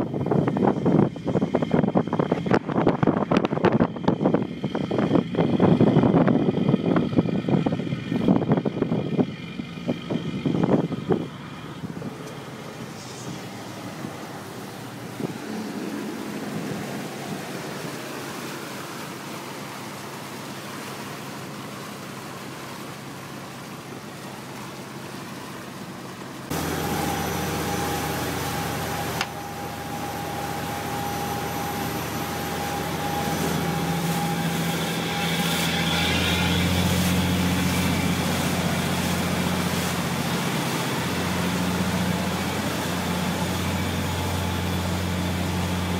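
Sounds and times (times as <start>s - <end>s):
boat engine hum: 0.0s - 45.9s
churning wake: 0.0s - 45.9s
wind: 0.0s - 45.9s
rushing water: 7.0s - 45.9s.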